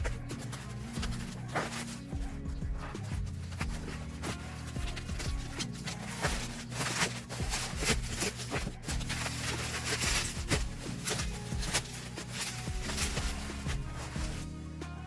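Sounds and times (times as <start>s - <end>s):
soft background music: 0.0s - 15.0s
unboxing rustling and scraping: 0.0s - 15.0s.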